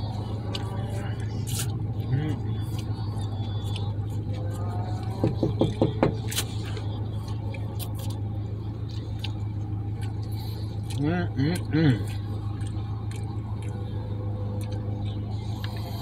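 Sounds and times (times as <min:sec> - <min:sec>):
chewing: 0:00.0 - 0:16.0
truck engine idling: 0:00.0 - 0:16.0.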